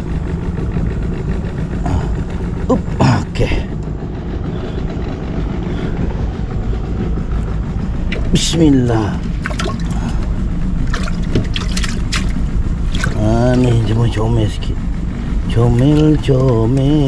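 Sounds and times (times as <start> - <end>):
outboard engine idling: 0.0 - 17.0.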